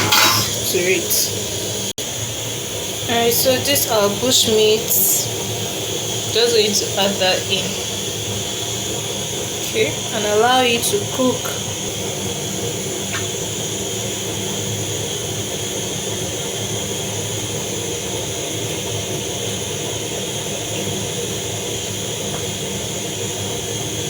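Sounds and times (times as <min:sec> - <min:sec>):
pot boiling on stove: 0:00.0 - 0:24.0.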